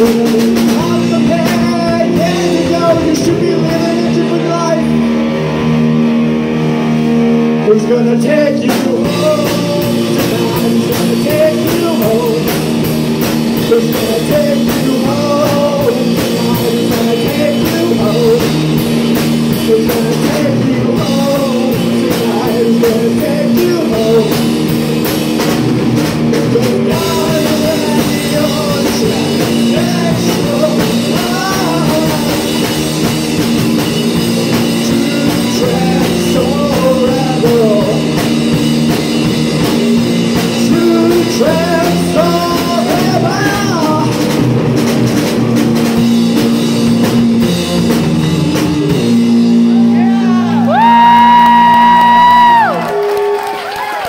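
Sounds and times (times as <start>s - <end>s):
person singing: 0.0s - 5.8s, 7.4s - 24.8s, 26.4s - 44.3s, 47.3s - 53.4s
punk rock band playing: 0.0s - 54.0s.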